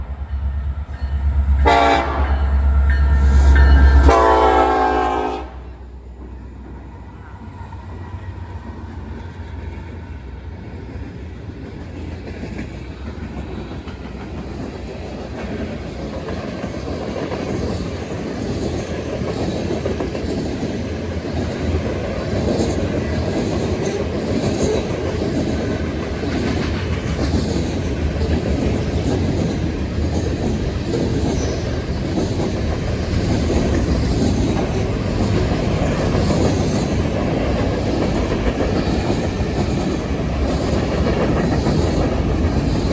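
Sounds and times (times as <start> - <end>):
freight train wheels clacking: 0.0 - 42.9.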